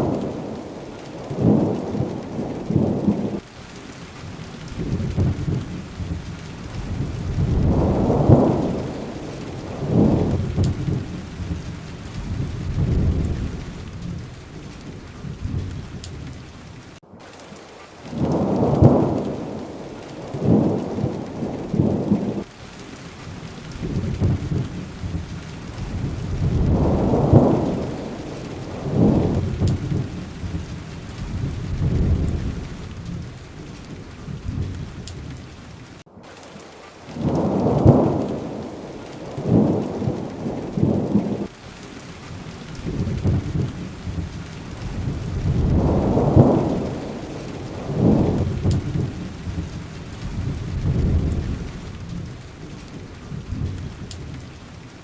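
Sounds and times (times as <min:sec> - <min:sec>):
thunder rumbling: 0:00.0 - 0:36.1, 0:37.1 - 0:55.0
steady rain: 0:00.0 - 0:55.0.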